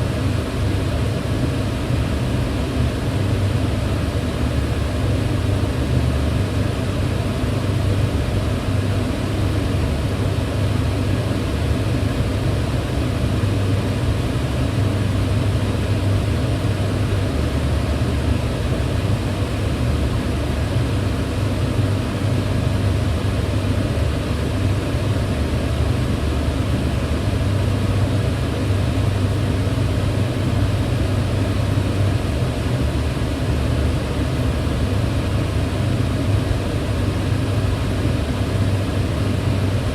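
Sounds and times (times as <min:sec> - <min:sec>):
range hood fan running: 0:00.0 - 0:39.9.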